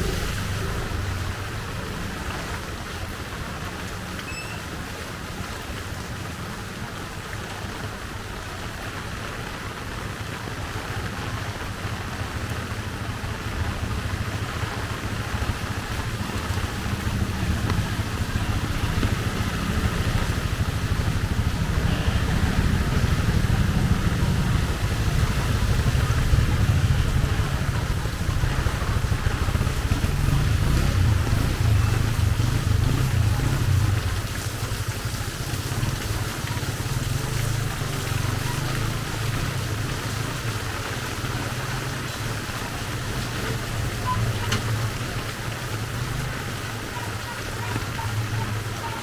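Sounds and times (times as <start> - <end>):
low traffic rumble: 0.0 - 49.0
steady rain: 0.0 - 49.0.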